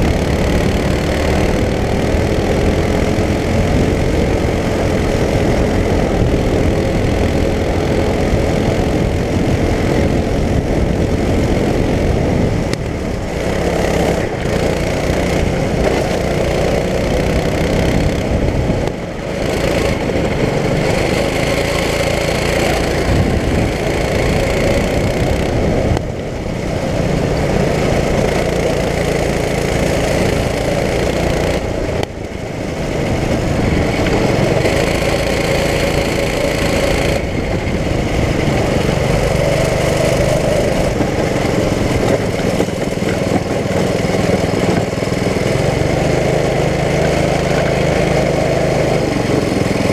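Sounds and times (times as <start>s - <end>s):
go-kart engine revving: 0.0s - 49.9s.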